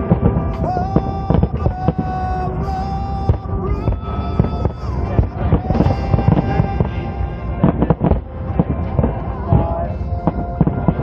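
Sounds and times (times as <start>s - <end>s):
fireworks bangs and pops: 0.0s - 11.0s
music with long held notes: 0.0s - 11.0s.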